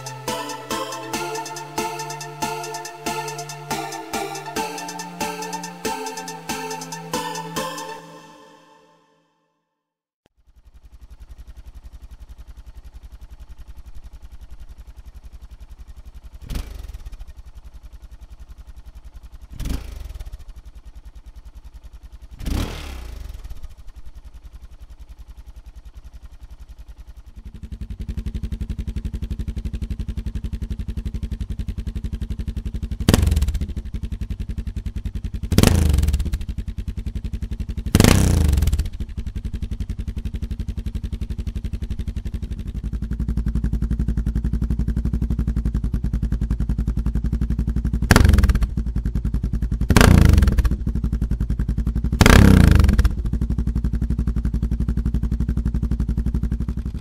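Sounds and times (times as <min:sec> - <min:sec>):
motorcycle engine idling and revving: 0:00.0 - 0:07.9, 0:10.3 - 0:57.0.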